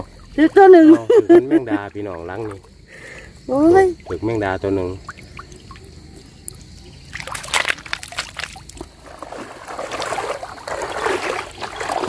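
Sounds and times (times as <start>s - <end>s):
faint water drips: 0.0s - 12.0s
wading through shallow water: 0.0s - 12.0s.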